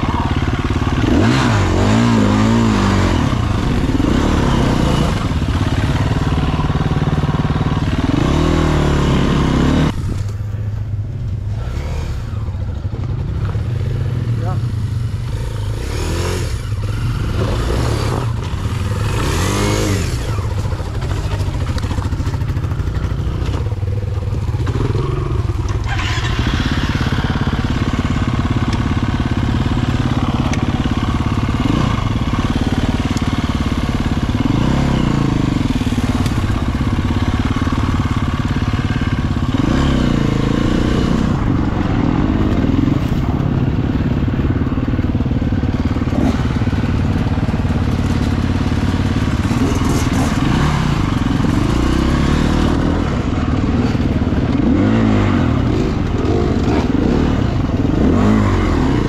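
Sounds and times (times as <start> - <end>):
dirt bike engine revving: 0.0 - 10.3, 11.4 - 59.0.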